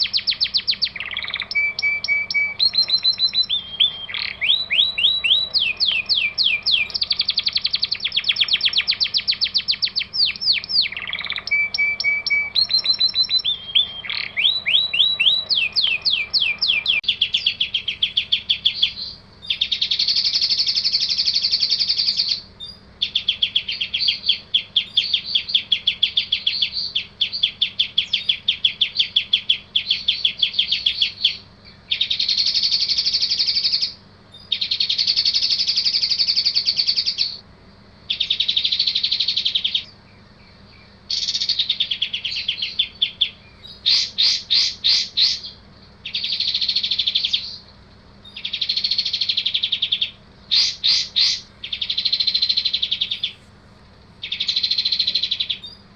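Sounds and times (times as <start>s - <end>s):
songbird chirps and buzzy trills: 0.0s - 55.9s.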